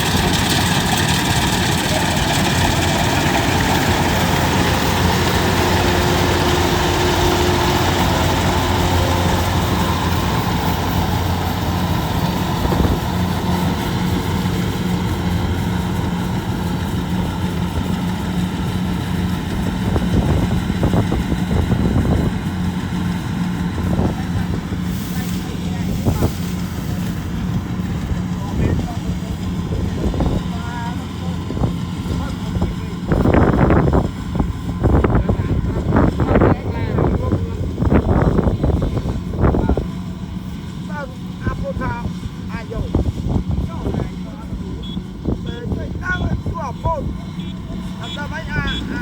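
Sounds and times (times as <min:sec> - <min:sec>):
harvesting machine engine running: 0:00.0 - 0:49.0.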